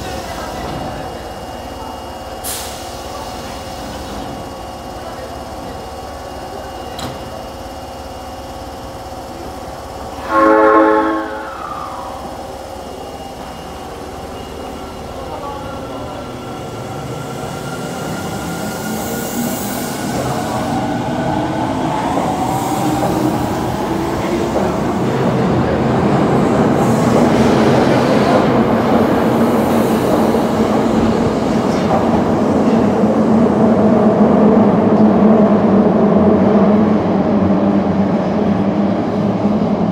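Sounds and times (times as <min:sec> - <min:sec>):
subway train motor whine: 0:00.0 - 0:39.9.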